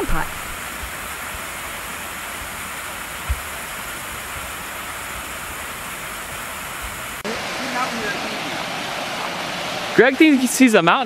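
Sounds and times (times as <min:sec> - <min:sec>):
waterfall rushing into a pool: 0:00.0 - 0:11.0.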